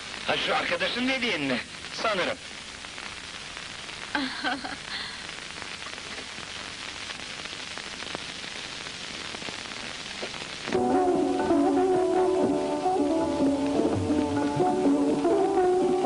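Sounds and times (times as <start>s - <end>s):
faint crackle: 0.0s - 16.0s
film soundtrack hiss: 0.0s - 16.0s.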